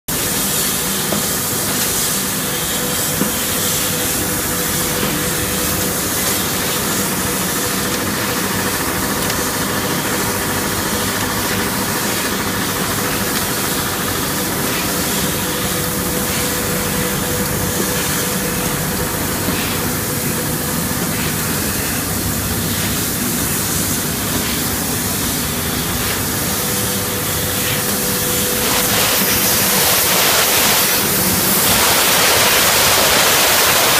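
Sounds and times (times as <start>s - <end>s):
grinding machine hissing grind: 0.1s - 33.9s.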